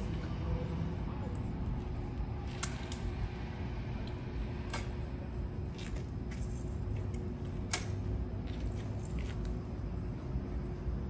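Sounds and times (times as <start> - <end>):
low background rumble: 0.0 - 11.0
steady hum: 0.0 - 11.0.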